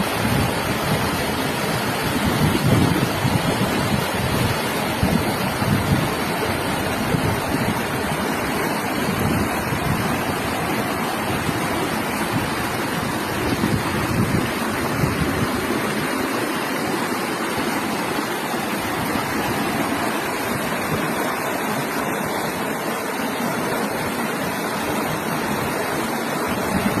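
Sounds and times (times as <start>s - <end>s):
river water rushing over rocks: 0.0s - 27.0s.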